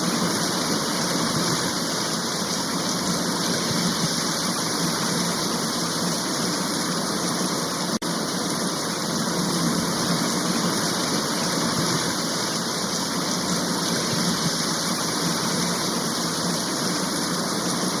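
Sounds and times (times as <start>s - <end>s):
water rushing and falling: 0.0s - 18.0s.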